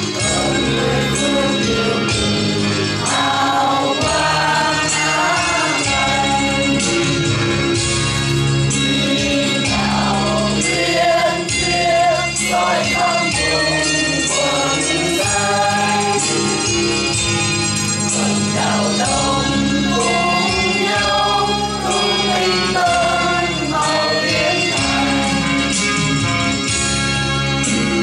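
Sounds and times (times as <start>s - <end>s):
mixed choir singing a hymn: 0.0s - 7.8s, 8.6s - 17.2s, 18.0s - 26.2s.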